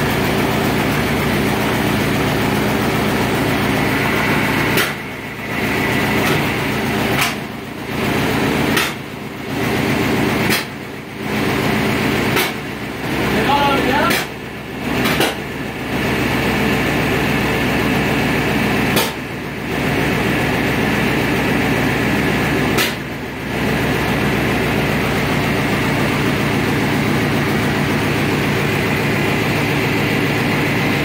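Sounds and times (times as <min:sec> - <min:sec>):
truck engine idling: 0:00.0 - 0:31.0.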